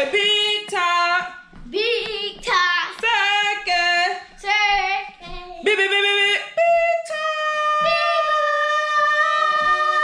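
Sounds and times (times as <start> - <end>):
girl singing wordless notes: 0.0 - 10.0.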